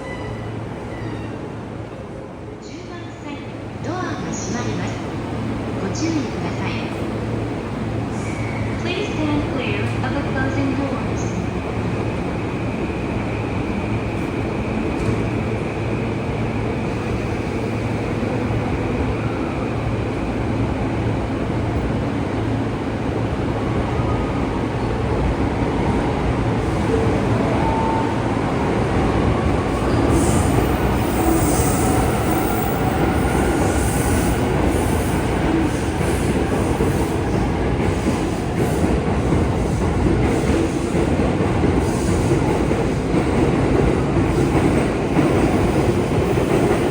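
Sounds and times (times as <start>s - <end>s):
subway train wheels rumbling: 0.0s - 46.9s.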